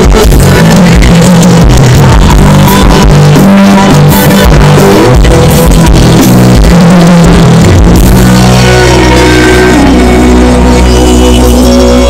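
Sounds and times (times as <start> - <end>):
distorted live band: 0.0 - 12.0
held bass notes: 0.0 - 12.0.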